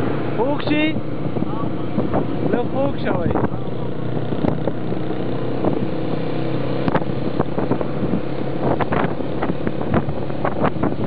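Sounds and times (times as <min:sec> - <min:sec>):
motorcycle engines droning: 0:00.0 - 0:11.0
wind on microphone: 0:00.0 - 0:11.0.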